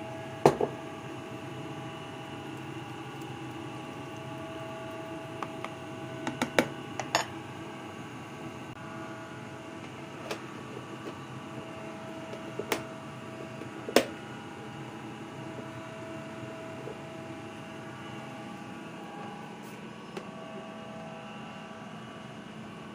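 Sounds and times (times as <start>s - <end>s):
steady hum: 0.0s - 22.9s.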